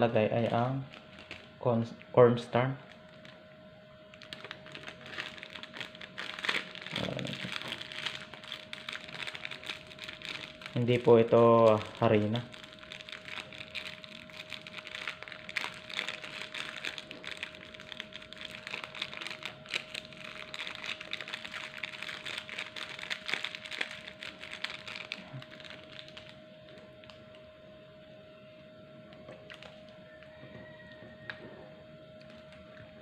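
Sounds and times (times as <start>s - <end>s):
plastic bag crinkling: 0.4s - 1.6s, 2.8s - 3.4s, 4.1s - 27.4s, 29.3s - 31.2s, 32.2s - 33.0s.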